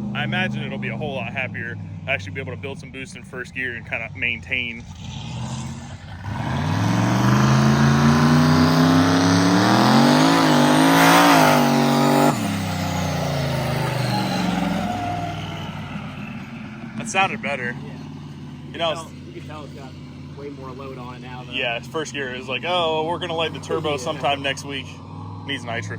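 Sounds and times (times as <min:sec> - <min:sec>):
truck engine revving under load: 0:00.0 - 0:25.9.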